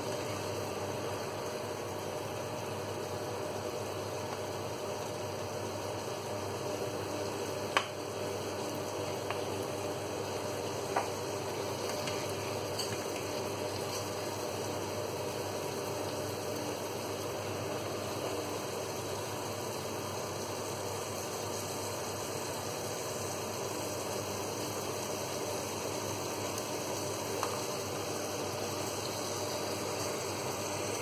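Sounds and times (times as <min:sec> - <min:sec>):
background hiss and hum: 0:00.0 - 0:31.0.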